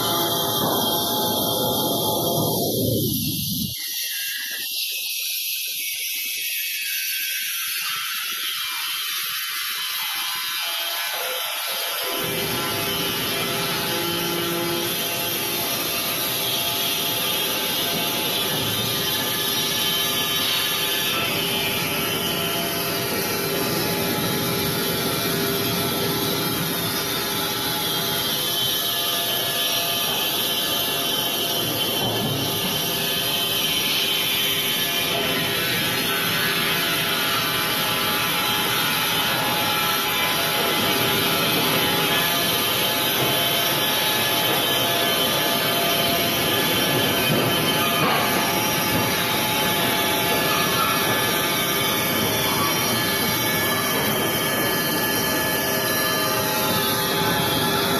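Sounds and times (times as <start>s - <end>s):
band sawmill running: 0.0s - 4.6s, 7.8s - 57.9s.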